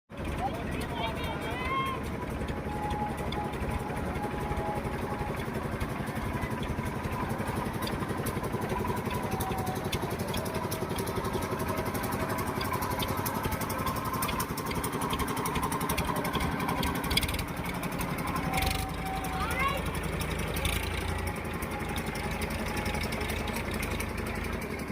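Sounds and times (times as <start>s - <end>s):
tractor engine chugging: 0.1s - 24.9s.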